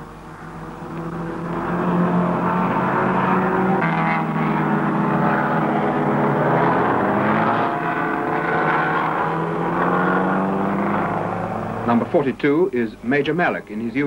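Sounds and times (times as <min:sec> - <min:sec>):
racing car engines at high revs: 0:00.0 - 0:12.2.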